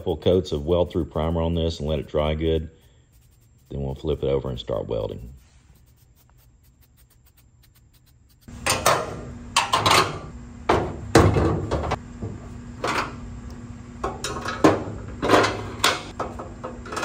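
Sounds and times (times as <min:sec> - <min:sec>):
low shop hum: 0:00.0 - 0:17.0.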